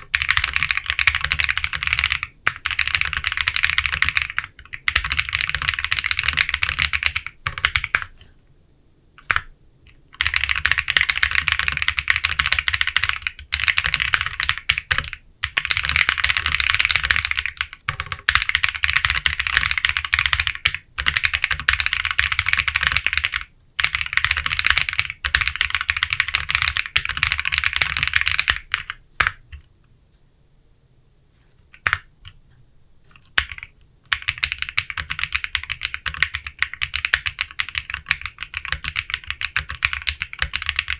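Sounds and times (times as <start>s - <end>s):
fast typing on mechanical keyboard: 0.0s - 8.1s, 9.2s - 29.5s, 33.2s - 40.9s.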